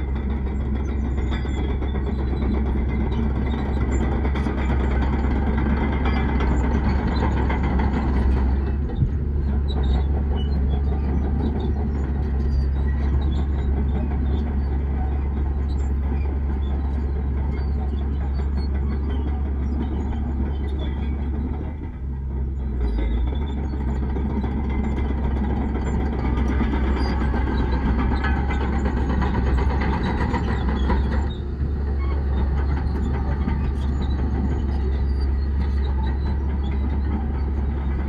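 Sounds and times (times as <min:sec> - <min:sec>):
heavy diesel engine droning: 0:00.0 - 0:38.0.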